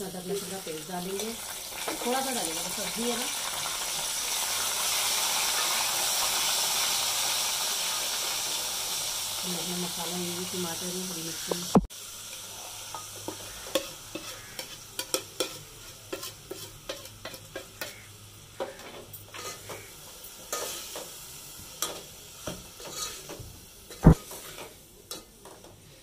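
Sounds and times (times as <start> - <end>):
vegetables sizzling while frying: 0.0 - 26.0.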